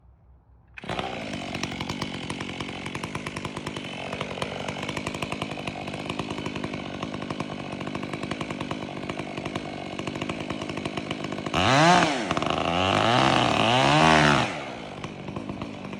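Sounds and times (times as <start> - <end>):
chainsaw running: 0.8 - 15.9.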